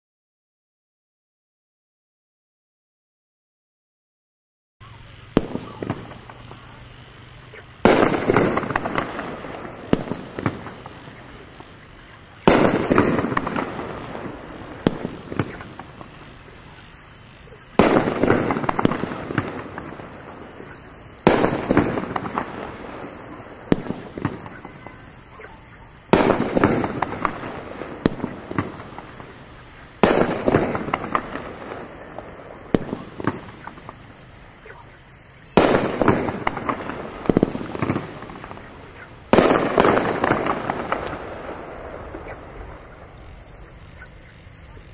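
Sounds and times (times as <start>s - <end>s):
firework crackle: 4.8s - 44.9s
firework shell reports: 4.8s - 44.9s.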